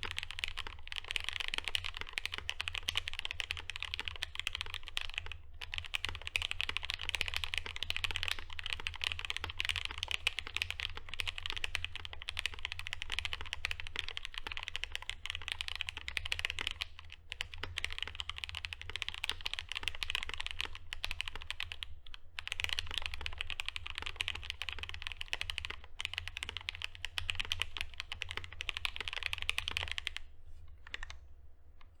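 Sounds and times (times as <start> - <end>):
mechanical keyboard typing: 0.0 - 31.2.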